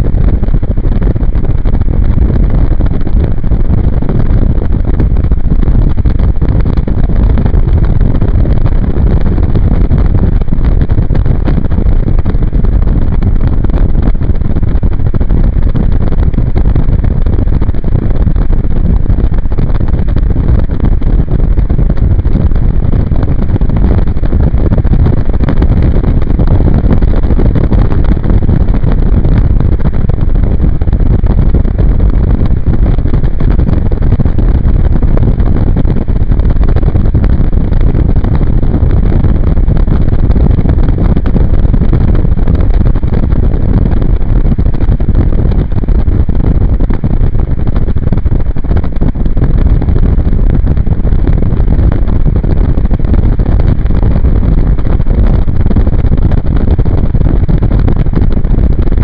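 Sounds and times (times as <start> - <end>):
wind buffeting microphone: 0.1 - 58.8.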